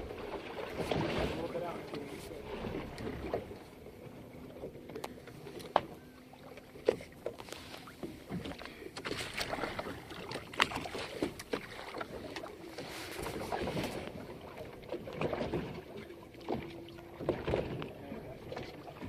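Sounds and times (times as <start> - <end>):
knocks and clicks on boat: 0.0 - 19.0.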